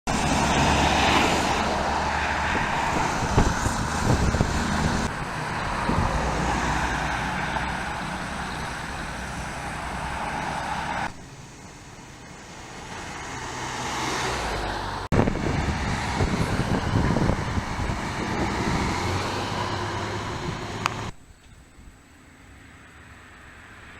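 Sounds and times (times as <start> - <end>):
city street traffic: 0.0 - 23.9.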